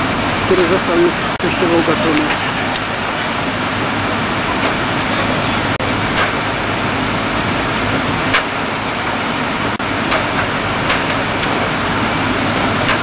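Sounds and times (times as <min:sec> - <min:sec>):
fire engines droning: 0:00.0 - 0:13.0.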